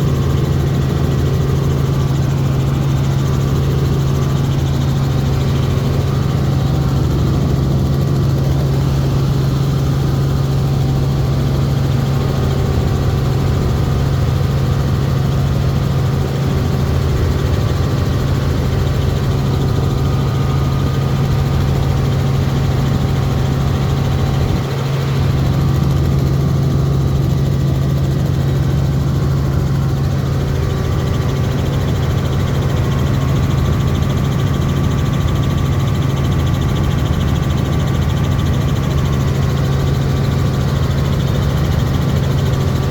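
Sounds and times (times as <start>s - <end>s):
helicopter cabin drone: 0.0s - 42.9s.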